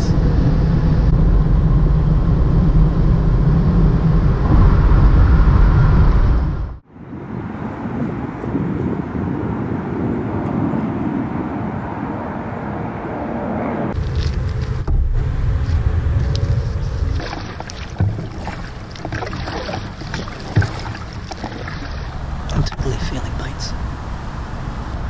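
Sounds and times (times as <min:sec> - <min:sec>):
steady rushing noise: 0:00.0 - 0:25.0
wind rumbling on microphone: 0:00.0 - 0:25.0.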